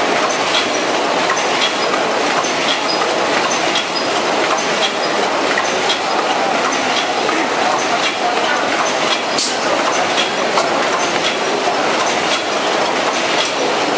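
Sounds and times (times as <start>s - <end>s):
machine mechanical clatter: 0.0s - 13.9s
sharp machine clack: 0.0s - 13.9s.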